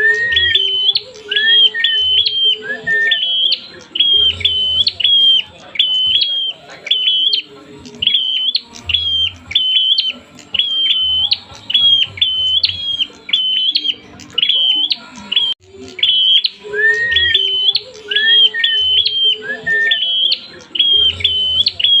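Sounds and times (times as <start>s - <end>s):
bird chirping rapidly: 0.0s - 22.0s.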